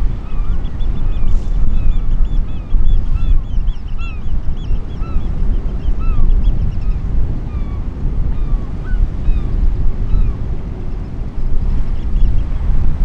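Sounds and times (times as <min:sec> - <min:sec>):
sea rumble: 0:00.0 - 0:13.0
wind: 0:00.0 - 0:13.0.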